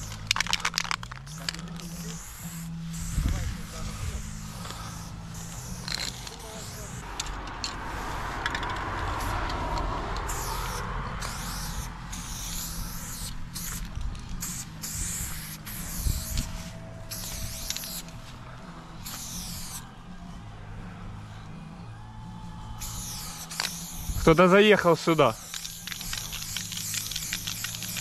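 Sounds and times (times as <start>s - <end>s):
spray-paint can hissing: 0.0s - 18.3s, 19.0s - 20.0s, 22.8s - 28.0s.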